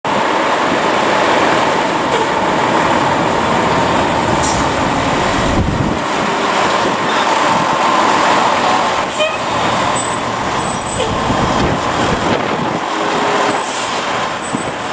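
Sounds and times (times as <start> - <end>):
truck engine and road noise: 0.1 - 14.9.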